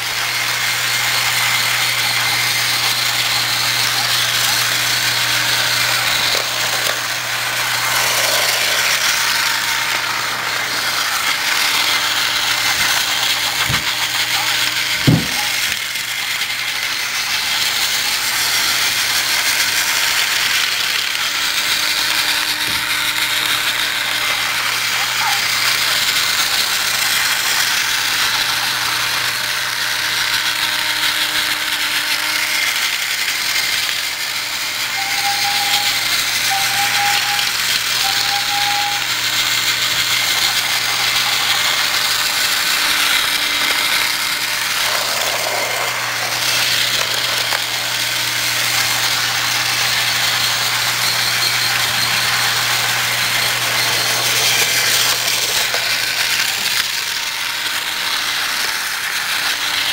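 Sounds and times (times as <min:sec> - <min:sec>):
toy train motors whirring and rattling: 0:00.0 - 0:59.9.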